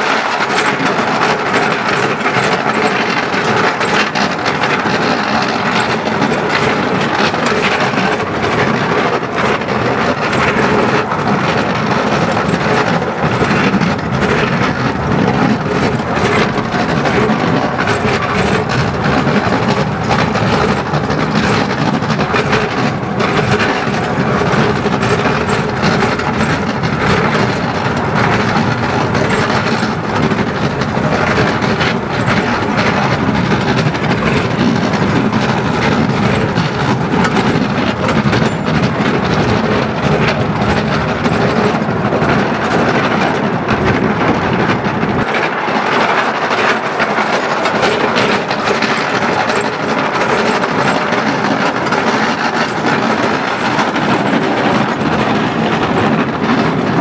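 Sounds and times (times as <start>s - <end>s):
steam train wheels clattering on rails: 0.0s - 57.0s.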